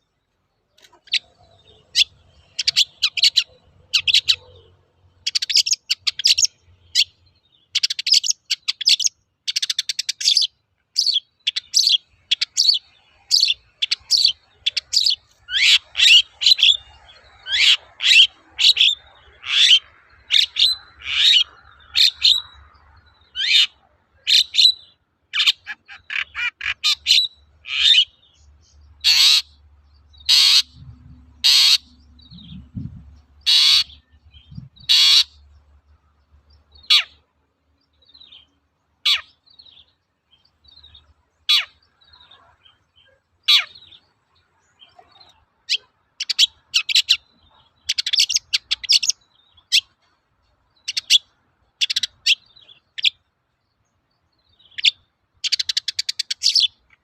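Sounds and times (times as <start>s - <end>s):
harsh bird calls: 0.6s - 53.3s, 53.9s - 57.0s
bird chattering and trilling: 0.8s - 53.3s, 54.4s - 57.0s.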